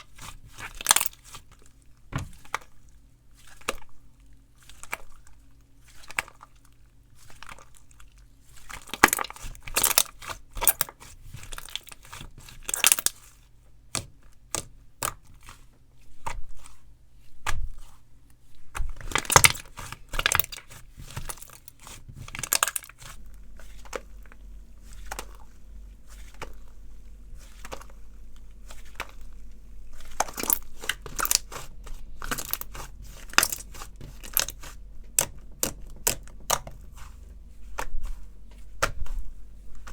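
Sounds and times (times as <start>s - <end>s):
hands squishing slime: 0.0s - 39.9s.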